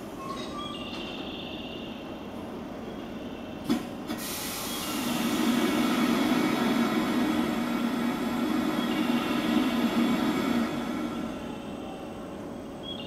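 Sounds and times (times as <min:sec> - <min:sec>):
train equipment hissing rumble: 0:01.1 - 0:13.0.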